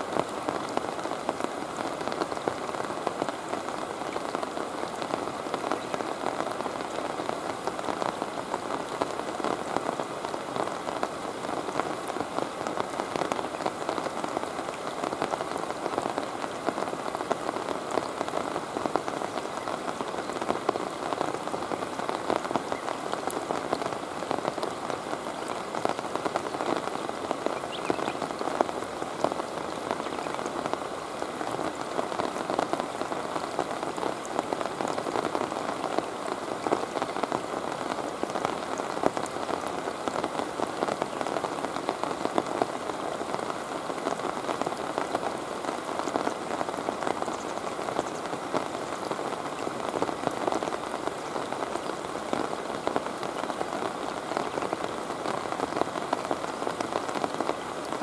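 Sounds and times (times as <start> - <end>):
rain on river surface: 0.0 - 58.0.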